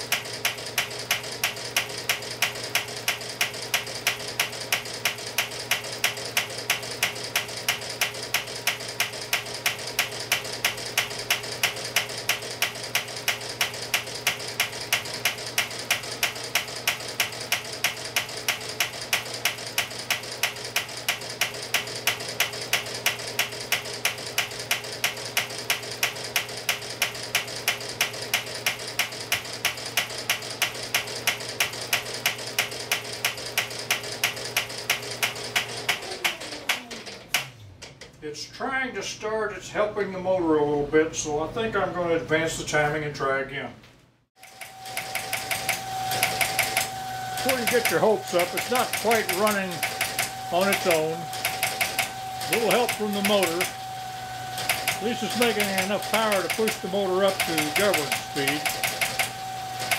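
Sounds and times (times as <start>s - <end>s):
electric motor hum: 0.0s - 37.7s, 44.4s - 59.9s
engine sharp clicking: 0.0s - 38.2s, 44.7s - 53.9s, 54.5s - 59.9s.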